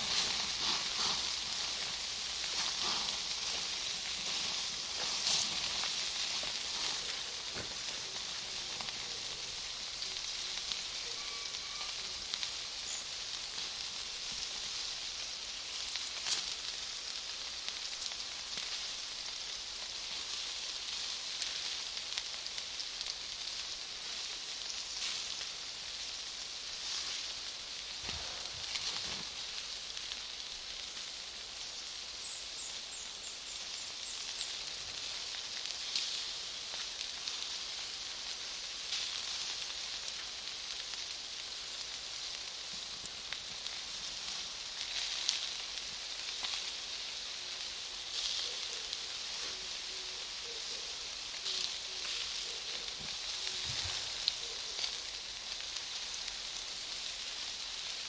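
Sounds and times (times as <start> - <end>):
bonfire sizzling hiss: 0.0 - 58.0
fire popping: 0.0 - 58.0.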